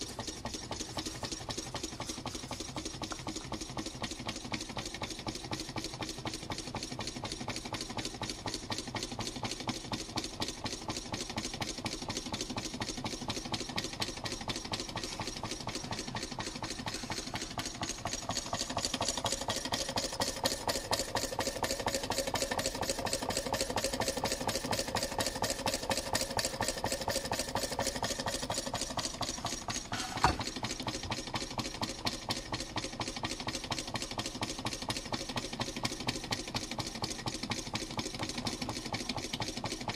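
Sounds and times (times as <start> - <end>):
small engine mechanical clatter: 0.0 - 39.9.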